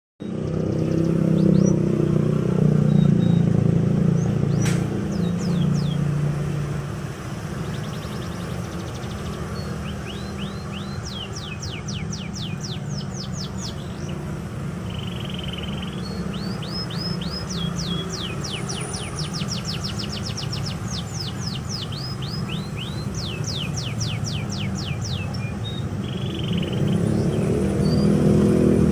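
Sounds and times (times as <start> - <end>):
canary singing trills: 0.2 - 28.9.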